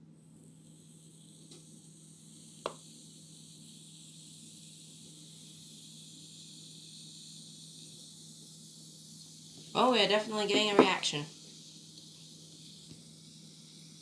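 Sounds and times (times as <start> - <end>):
fizzing hiss: 0.7 - 14.0.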